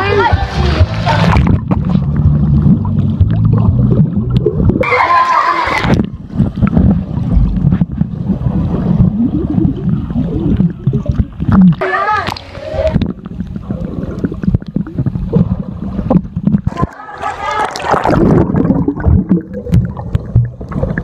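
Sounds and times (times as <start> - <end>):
muffled underwater water rumble: 0.0 - 21.0
bubbling water: 1.1 - 21.0.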